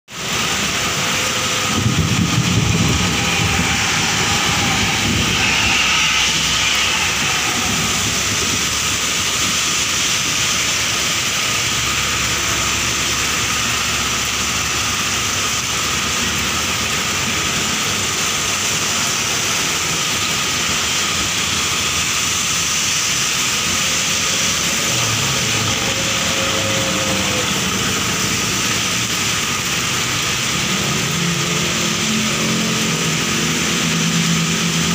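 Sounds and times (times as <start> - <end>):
engine rumbling: 0.1 - 34.9
heavy rain on flooded road: 0.1 - 34.9
vehicles driving through water: 0.1 - 34.9.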